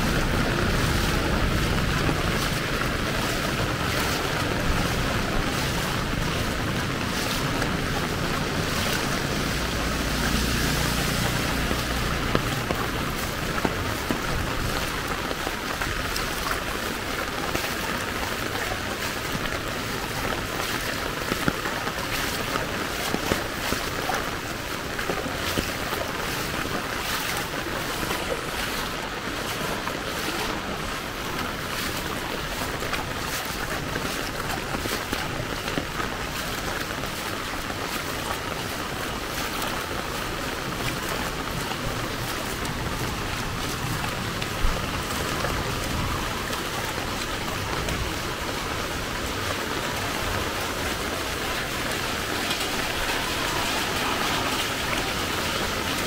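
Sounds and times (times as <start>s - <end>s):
heavy rain hissing: 0.0s - 56.0s
rain drop impacts: 0.0s - 56.0s.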